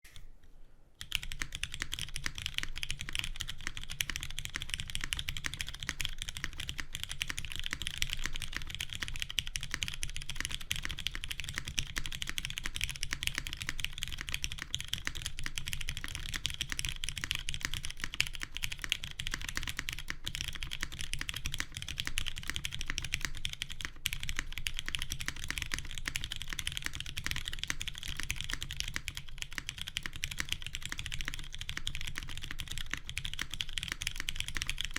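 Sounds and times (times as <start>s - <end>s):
typing on mechanical keyboard: 1.0s - 34.9s.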